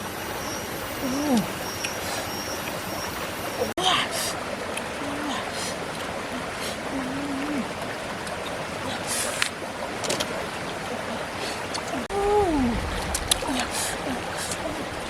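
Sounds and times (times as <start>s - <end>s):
flowing stream water: 0.0s - 15.0s.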